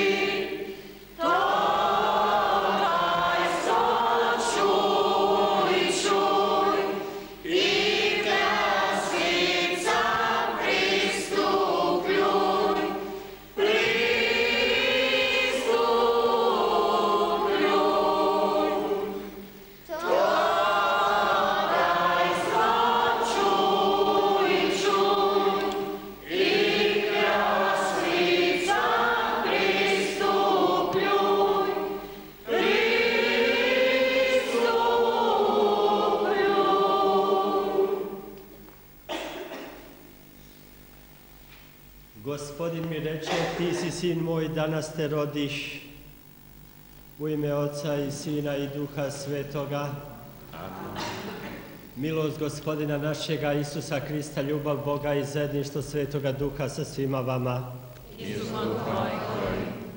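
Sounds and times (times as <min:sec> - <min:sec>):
congregation singing a hymn: 0:00.0 - 0:40.1, 0:42.1 - 0:46.1, 0:47.1 - 0:59.9.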